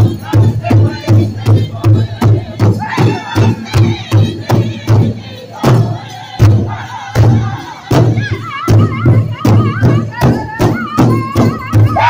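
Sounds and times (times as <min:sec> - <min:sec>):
group singing in unison: 0:00.0 - 0:12.0
large hand drum beaten with sticks: 0:00.0 - 0:12.0.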